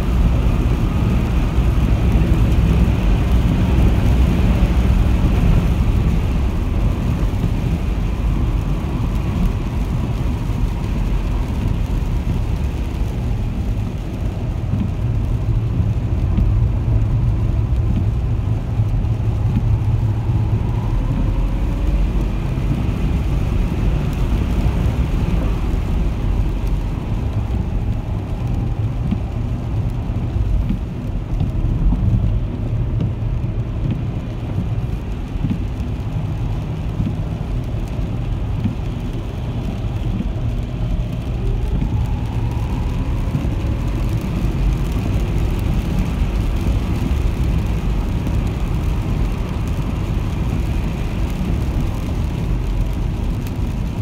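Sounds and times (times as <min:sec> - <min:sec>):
tyre and road rumble: 0:00.0 - 0:54.0
wind: 0:00.0 - 0:54.0.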